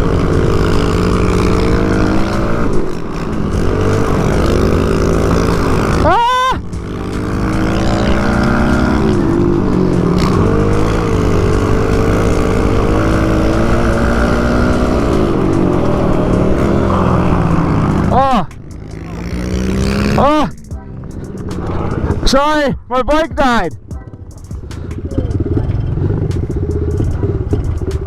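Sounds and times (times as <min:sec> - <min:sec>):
small motorcycle engine revving: 0:00.0 - 0:20.5, 0:24.4 - 0:28.0.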